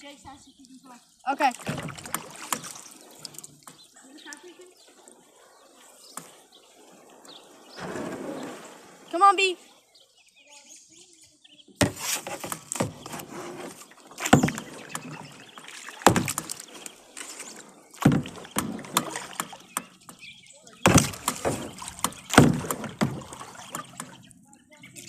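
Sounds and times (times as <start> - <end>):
kayak paddle splashing water: 0.6 - 10.0, 11.8 - 24.4.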